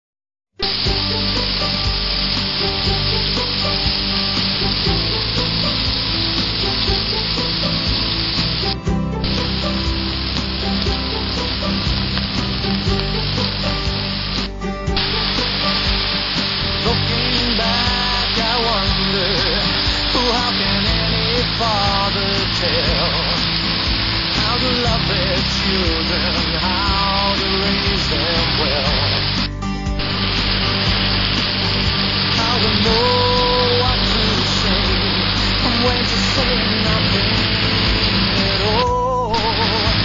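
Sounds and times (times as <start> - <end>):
food sizzling in a hot pan: 0.6 - 40.0
music: 0.6 - 40.0.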